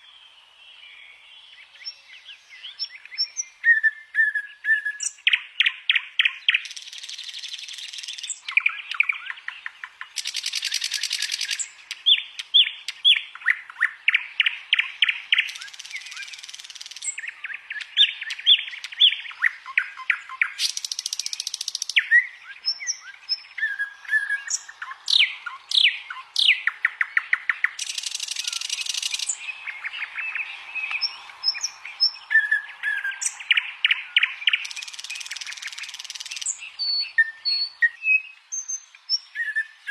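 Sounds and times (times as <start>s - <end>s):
songbird song: 0.0s - 39.9s.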